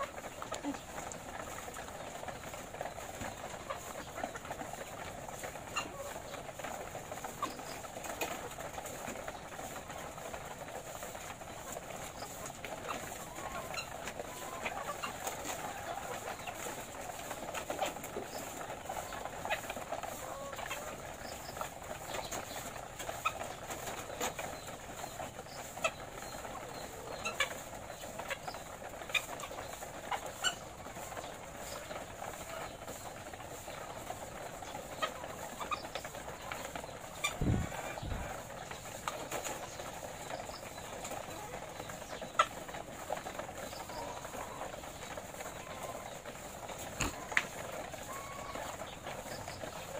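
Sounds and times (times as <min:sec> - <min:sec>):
hens clucking: 0:00.0 - 0:49.9.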